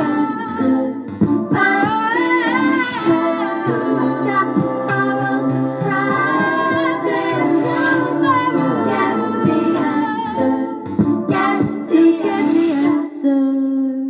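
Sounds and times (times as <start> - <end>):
layered vocal loops: 0.0 - 13.8
woman singing into microphone: 0.0 - 14.0.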